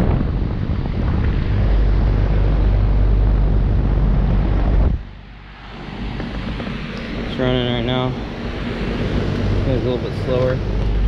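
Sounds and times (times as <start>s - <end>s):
air conditioner fan wind buffeting: 0.0s - 11.0s.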